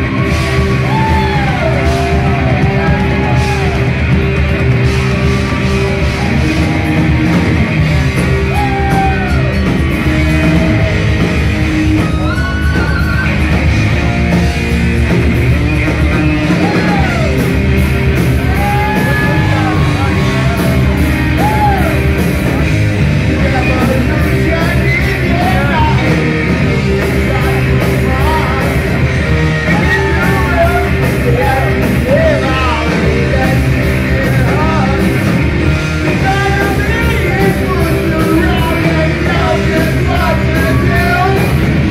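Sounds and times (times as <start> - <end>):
rock music with singing: 0.0 - 41.9.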